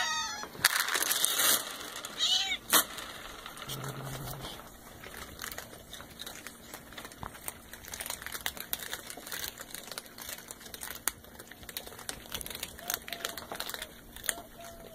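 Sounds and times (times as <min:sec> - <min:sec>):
cats crunching dry kibble: 0:00.0 - 0:14.9.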